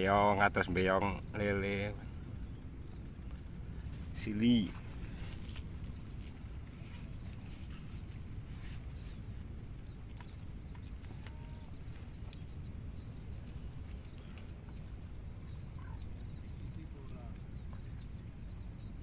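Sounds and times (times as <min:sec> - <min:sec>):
faint bird calls: 0:00.0 - 0:19.0
high-pitched insect drone: 0:00.0 - 0:19.0.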